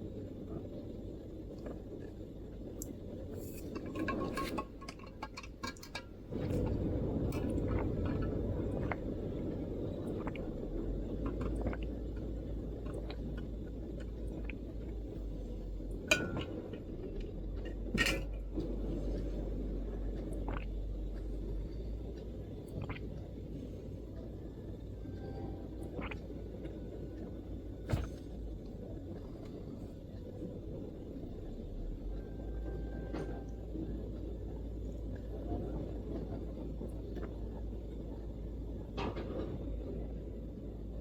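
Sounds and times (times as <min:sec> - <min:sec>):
low background rumble: 0:00.0 - 0:41.0.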